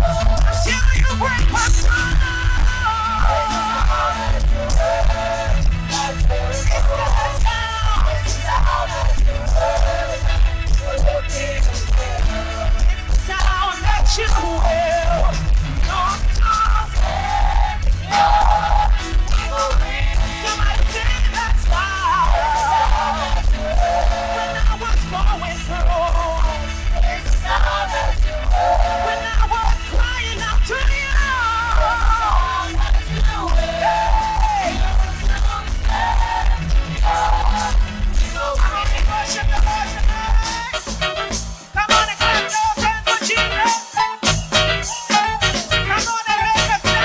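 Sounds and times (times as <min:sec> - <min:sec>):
choir singing with a band: 0:00.0 - 0:47.0.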